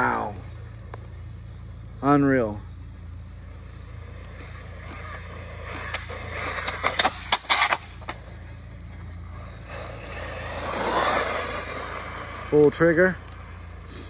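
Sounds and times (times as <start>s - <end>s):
rc truck motor and tyres: 0.0s - 14.0s.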